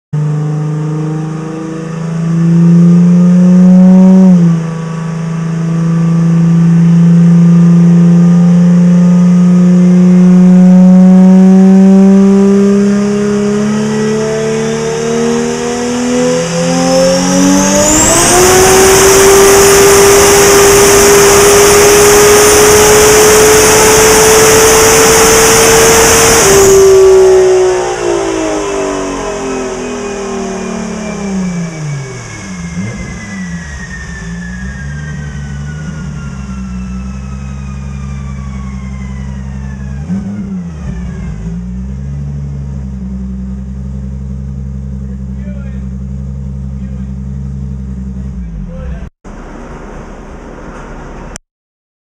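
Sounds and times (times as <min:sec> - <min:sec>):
car engine on a dyno: 0:00.1 - 0:51.4
turbo whine: 0:00.2 - 0:51.4.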